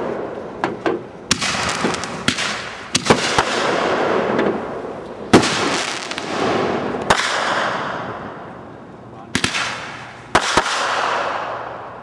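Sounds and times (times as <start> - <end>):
fireworks bangs with rumbling echo: 0.0 - 8.5, 9.3 - 12.0.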